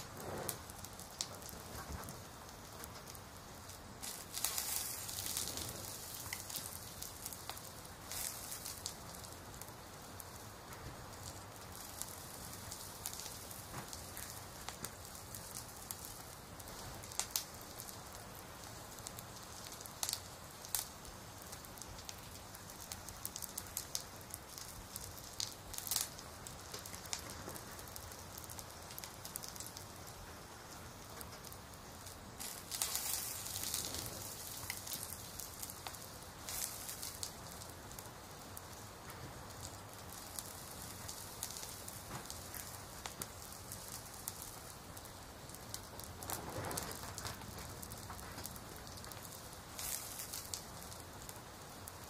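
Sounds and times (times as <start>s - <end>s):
close raindrops ticking: 0.0s - 52.0s
steady rain: 0.0s - 52.0s.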